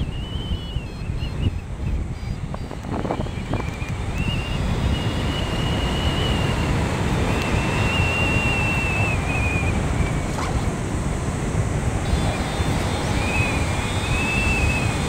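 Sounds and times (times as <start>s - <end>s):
faint high whistle: 0.0s - 10.6s, 12.0s - 15.0s
wind rushing over microphone: 0.0s - 15.0s.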